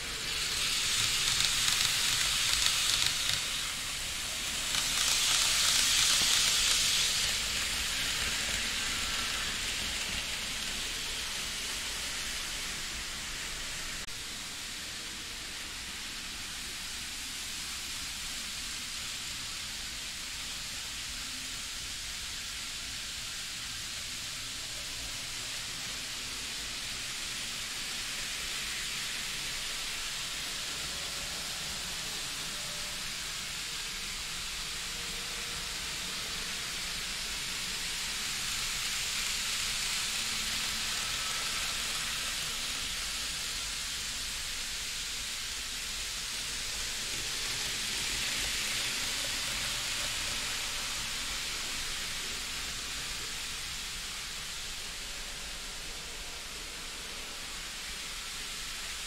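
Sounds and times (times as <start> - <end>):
model trains whirring: 0.0 - 59.0.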